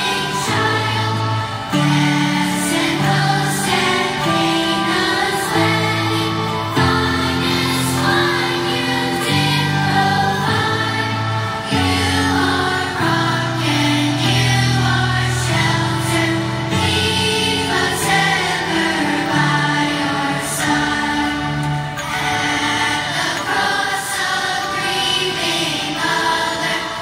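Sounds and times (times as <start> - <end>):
children's choir singing a hymn: 0.0 - 27.0.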